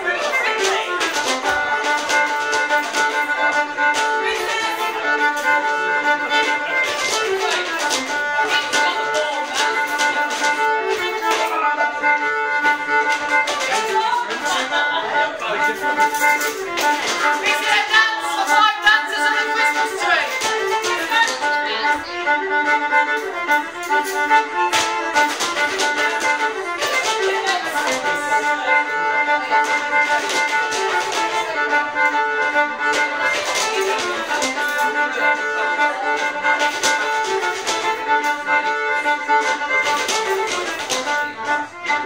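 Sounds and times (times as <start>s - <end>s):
fiddle playing dance tune: 0.0s - 42.0s
sharp taps and clacks: 0.1s - 14.7s, 15.6s - 42.0s.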